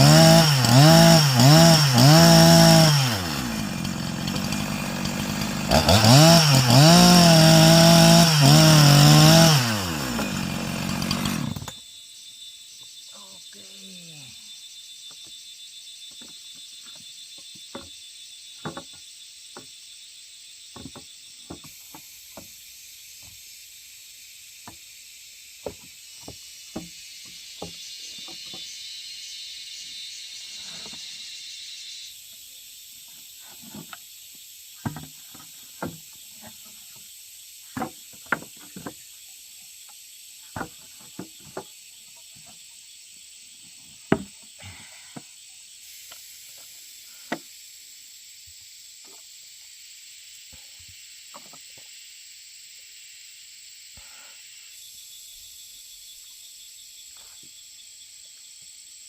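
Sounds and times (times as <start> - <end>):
high insect chorus: 11.4 - 59.0.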